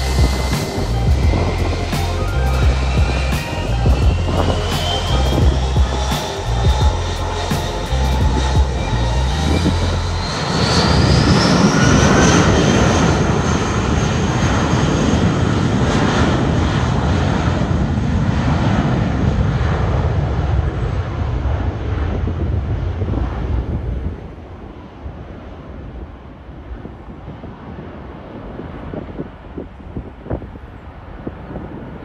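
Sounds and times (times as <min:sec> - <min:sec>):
jet engine roar: 0:00.0 - 0:32.0
jet engine whine rising: 0:00.0 - 0:32.0.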